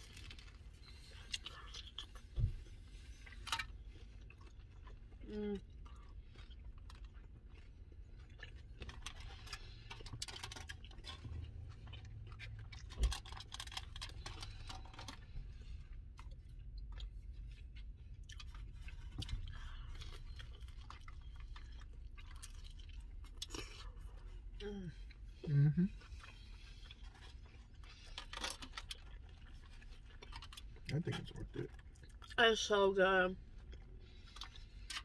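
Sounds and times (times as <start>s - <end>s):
chewing and crunching: 0.0s - 35.0s.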